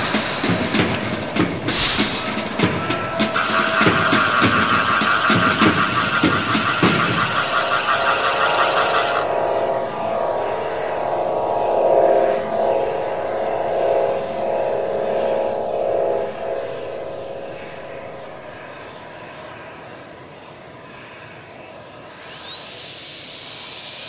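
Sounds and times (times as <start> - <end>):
engine drone: 0.0 - 19.0, 22.1 - 24.0.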